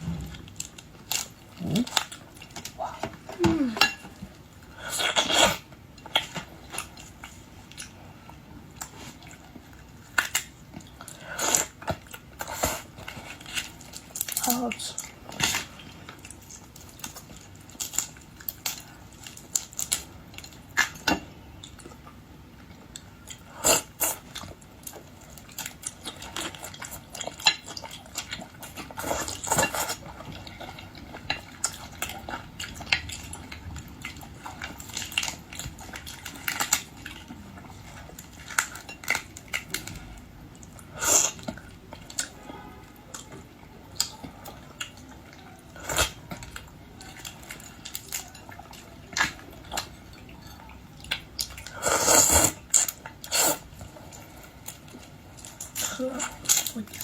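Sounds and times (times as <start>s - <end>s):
chewing: 0.0s - 57.0s.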